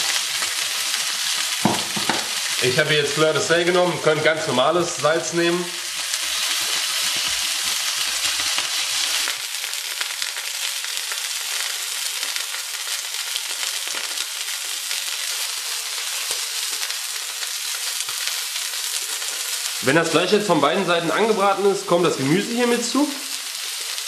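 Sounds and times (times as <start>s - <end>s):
meat sizzling in frying pan: 0.0s - 24.0s.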